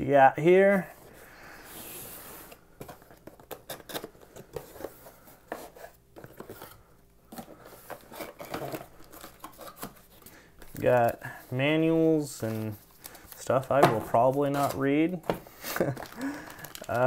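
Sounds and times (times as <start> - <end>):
cardboard and plastic rustling: 2.1 - 17.0.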